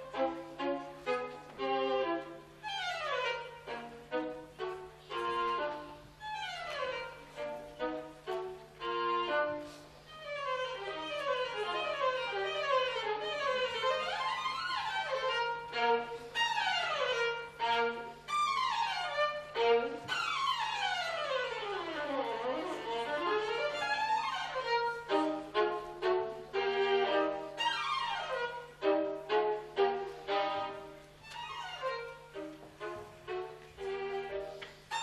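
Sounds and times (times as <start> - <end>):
solo violin playing fast runs: 0.0 - 35.0.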